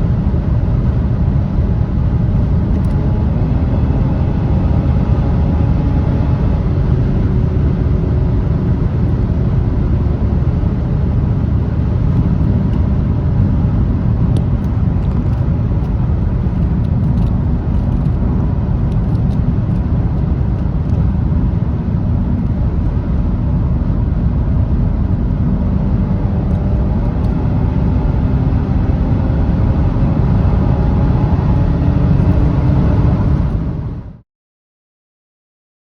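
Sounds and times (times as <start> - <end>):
car engine at high speed: 0.0 - 34.2
road and wind noise: 0.0 - 34.2.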